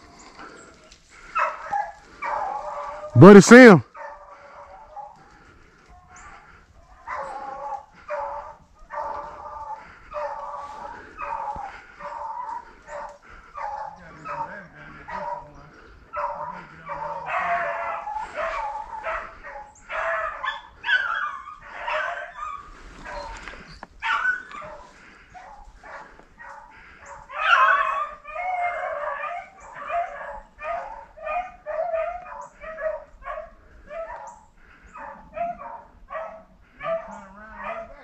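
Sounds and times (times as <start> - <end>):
dogs barking: 1.1 - 38.0.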